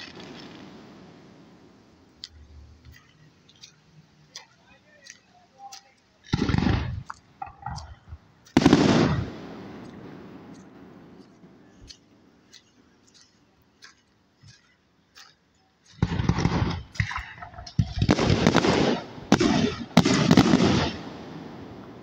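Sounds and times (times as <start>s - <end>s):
fireworks popping and banging: 0.0s - 14.6s, 15.8s - 22.0s
fireworks crackling: 0.0s - 22.0s.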